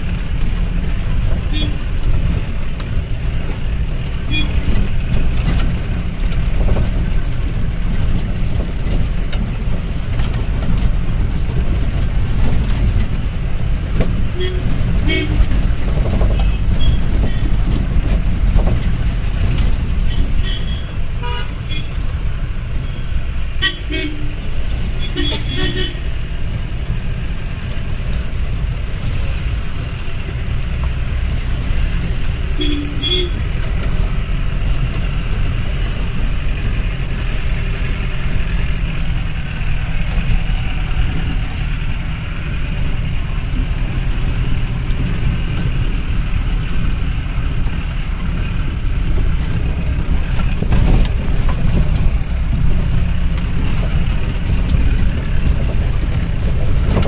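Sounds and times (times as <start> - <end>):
body and suspension rattles: 0.0 - 57.0
car engine rumbling: 0.0 - 57.0.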